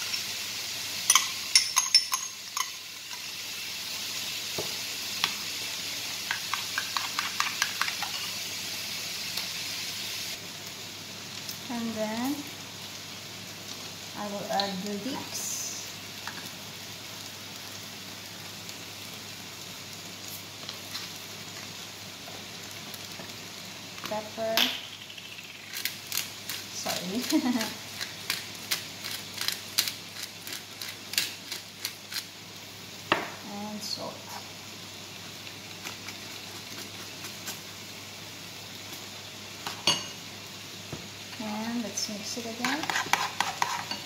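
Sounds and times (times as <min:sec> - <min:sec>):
onions sizzling in frying pan: 0:00.0 - 0:44.0.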